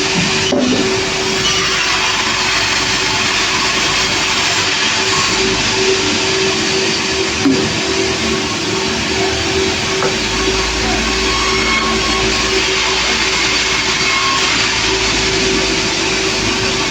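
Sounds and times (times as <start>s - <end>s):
machine hum: 0.0s - 16.9s
saw rasping: 0.0s - 16.9s.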